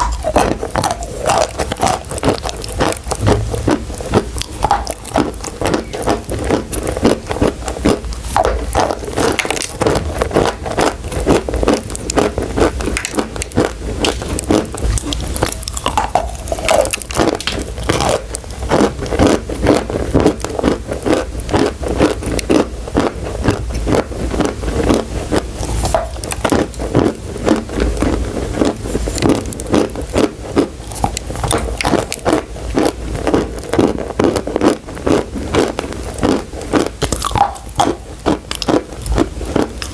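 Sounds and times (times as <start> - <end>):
chewing chalk crunching: 0.0 - 39.9.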